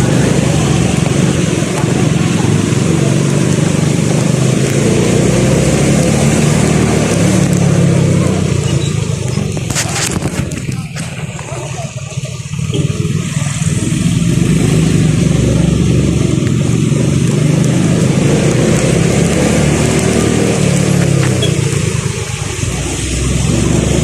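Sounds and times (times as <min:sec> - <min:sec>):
vehicle engine and tyre noise: 0:00.0 - 0:24.0.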